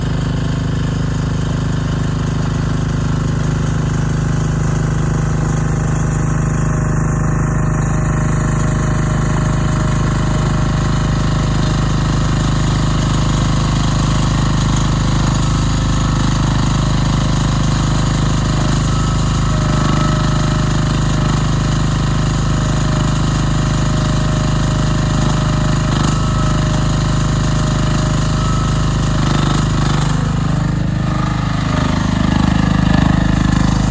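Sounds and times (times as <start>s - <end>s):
small excavator engine running: 0.0s - 33.9s.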